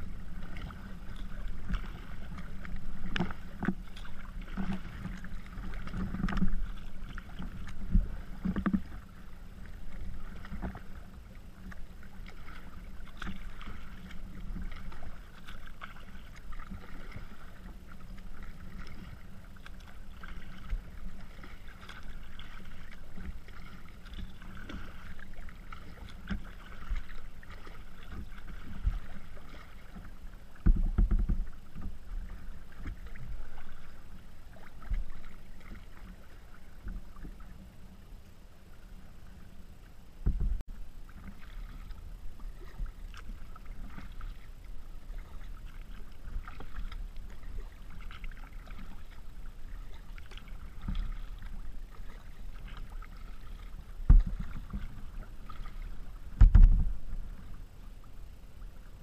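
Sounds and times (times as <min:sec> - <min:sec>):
water splashing against kayak hull: 0:00.0 - 0:59.0.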